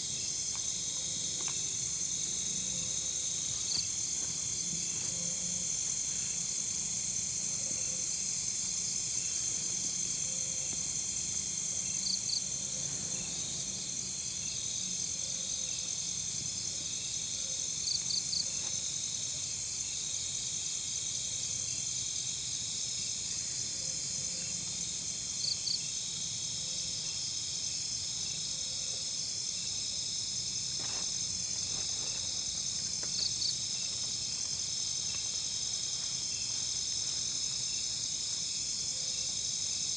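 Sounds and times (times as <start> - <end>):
insect chirps: 0.0 - 39.9
insects trilling drone: 0.0 - 39.9.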